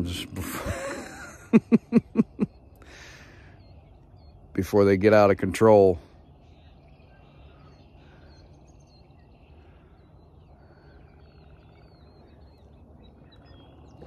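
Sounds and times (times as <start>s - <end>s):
bird trill: 0.0s - 14.0s
birds chirping and whistling: 0.0s - 14.0s
low outdoor rumble: 0.0s - 14.0s.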